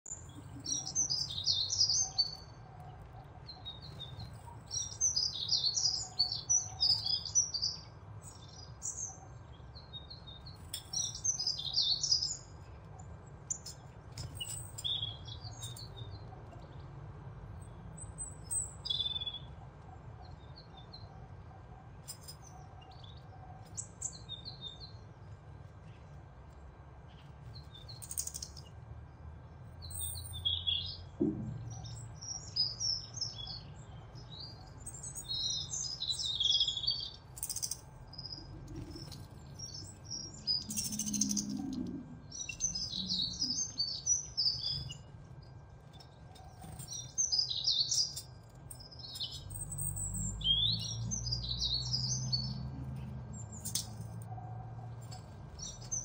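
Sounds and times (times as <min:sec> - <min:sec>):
small birds chirping and twittering: 0:00.0 - 0:56.0
low steady hum: 0:00.1 - 0:56.0.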